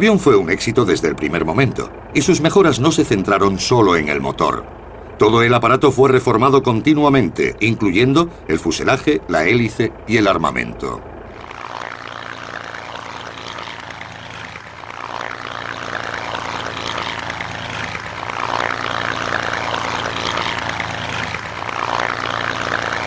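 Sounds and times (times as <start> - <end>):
piston aircraft engine running: 0.0 - 23.0.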